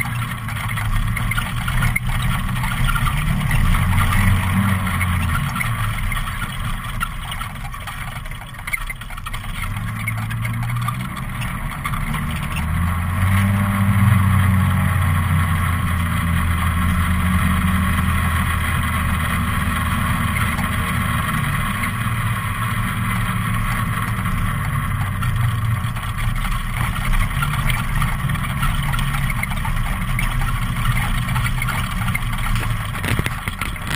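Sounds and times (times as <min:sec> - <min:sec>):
atv engine running: 0:00.0 - 0:33.9.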